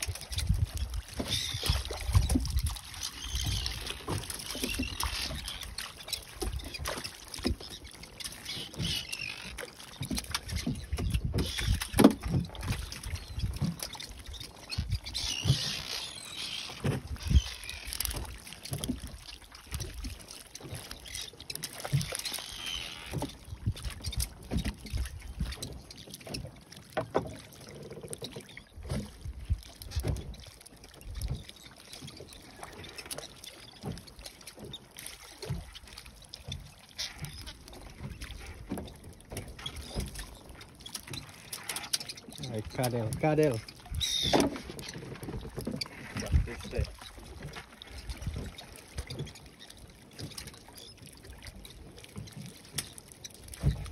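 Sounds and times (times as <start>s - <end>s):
knocks and thumps on boat: 0.0s - 53.9s
water slapping against boat hull: 0.0s - 53.9s.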